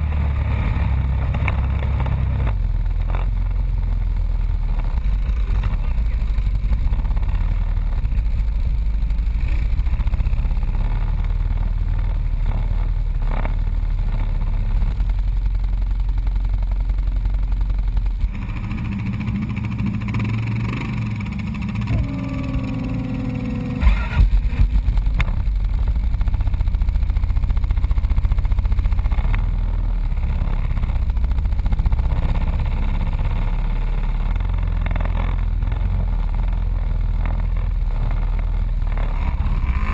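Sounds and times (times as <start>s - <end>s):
atv engines rumbling: 0.0s - 39.9s.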